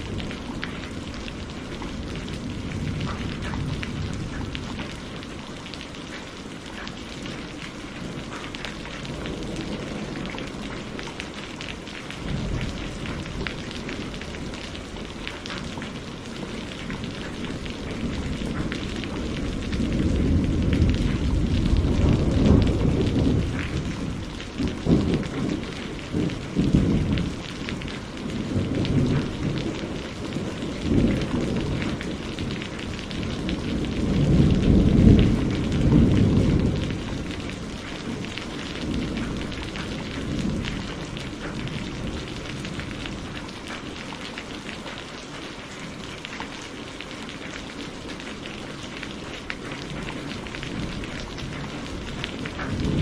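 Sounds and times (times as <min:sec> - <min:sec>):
rolling thunder: 0:00.0 - 0:05.3, 0:07.3 - 0:43.4, 0:49.7 - 0:53.0
rain falling: 0:00.0 - 0:53.0.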